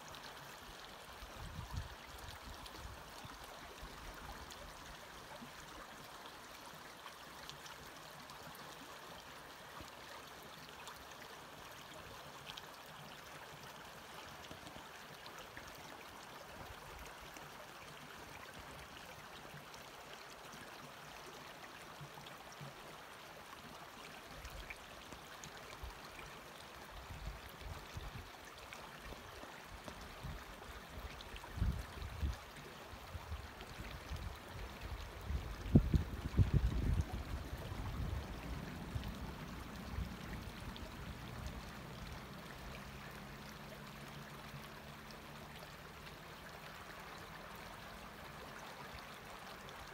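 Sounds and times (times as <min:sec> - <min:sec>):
creek water flowing: 0:00.0 - 0:49.9.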